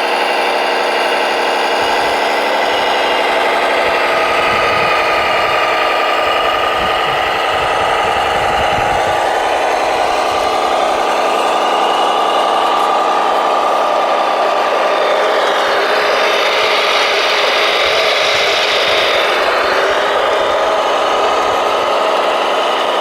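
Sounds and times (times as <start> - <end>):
machine engine drone with whine: 0.0 - 23.0.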